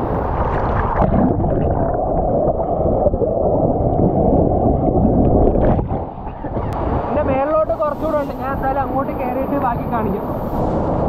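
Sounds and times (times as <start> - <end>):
muffled underwater rushing water: 0.0 - 11.0.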